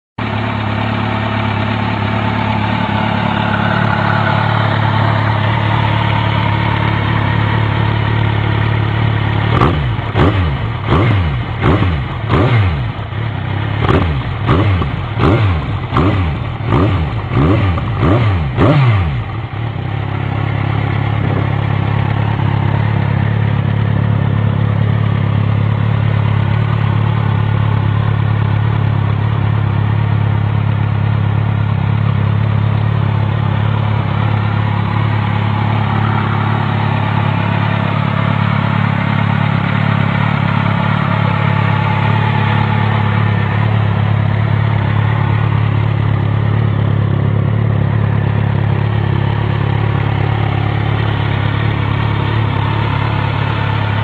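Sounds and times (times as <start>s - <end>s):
motorcycle engine idling: 0.2s - 54.0s
motorcycle engine revving: 0.2s - 54.0s.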